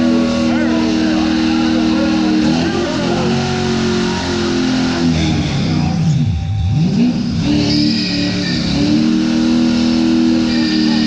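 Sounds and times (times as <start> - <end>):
engine revving at high revs: 0.0 - 11.0.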